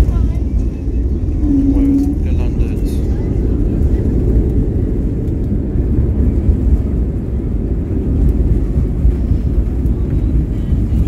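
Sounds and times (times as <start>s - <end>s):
jet airliner rumbling on runway: 0.0s - 11.0s.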